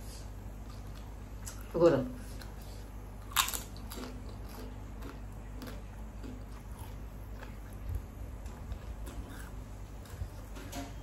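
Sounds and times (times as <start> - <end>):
steady low hum: 0.0 - 11.0
person chewing food: 0.6 - 10.6.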